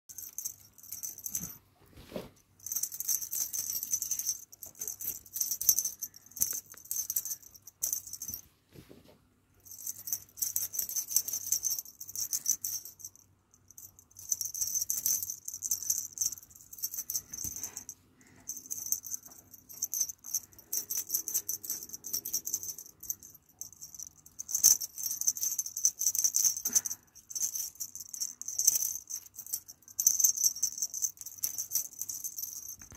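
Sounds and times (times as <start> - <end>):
small metal bells jingling: 0.1 - 1.6, 2.6 - 8.4, 9.6 - 32.9.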